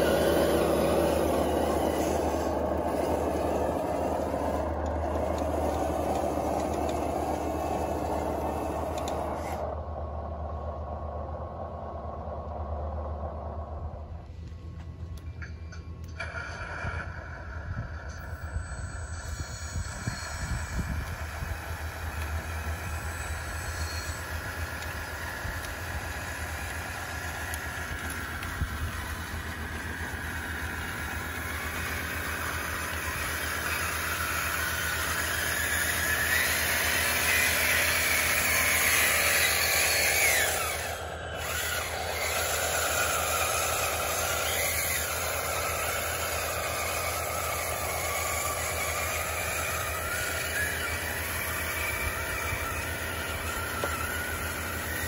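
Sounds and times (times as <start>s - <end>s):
electric motors and gears whining: 0.0s - 55.0s
low hum: 0.0s - 55.0s.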